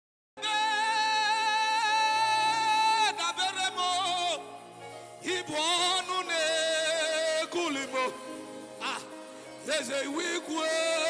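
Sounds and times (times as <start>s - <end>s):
person singing worship song: 0.4s - 11.0s.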